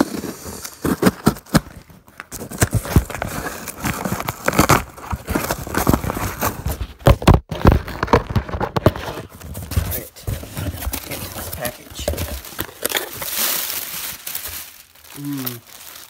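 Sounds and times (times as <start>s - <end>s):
cardboard box rustling and crinkling: 0.0s - 16.0s.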